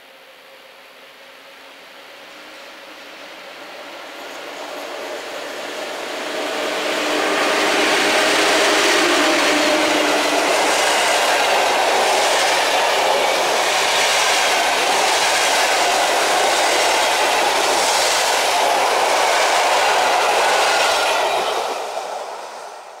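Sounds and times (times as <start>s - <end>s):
train wheels rolling on rails: 1.0s - 23.0s.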